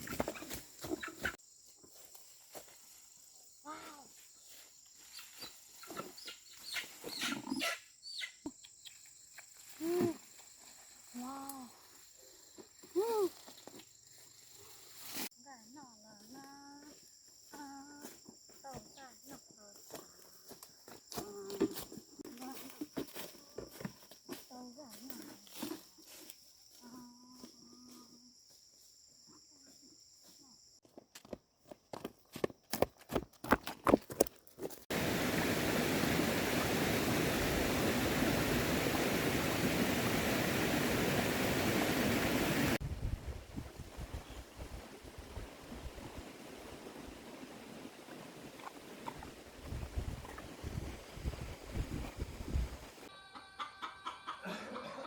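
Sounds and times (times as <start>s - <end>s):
insect chorus: 0.0s - 31.7s, 34.9s - 42.8s, 43.5s - 53.1s.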